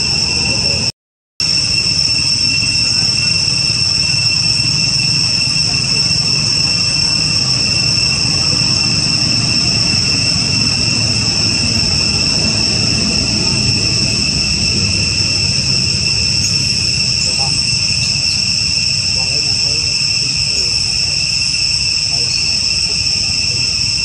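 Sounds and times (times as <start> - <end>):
low steady rumble: 0.0 - 24.0
shrill insect chorus droning: 0.0 - 24.0.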